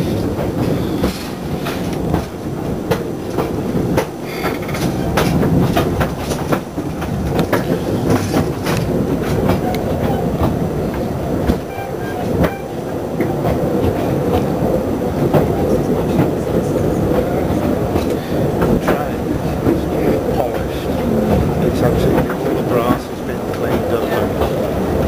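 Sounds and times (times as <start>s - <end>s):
train running rumble: 0.0s - 25.0s
wheels clicking over rail joints: 0.0s - 25.0s.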